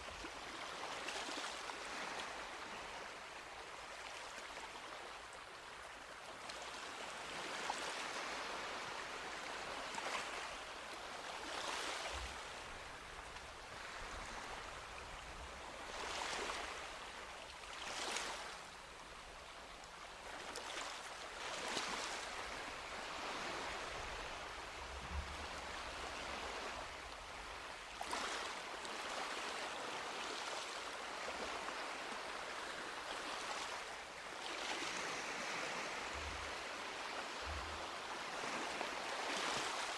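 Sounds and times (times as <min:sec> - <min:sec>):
small waves washing up a beach: 0:00.0 - 0:39.9.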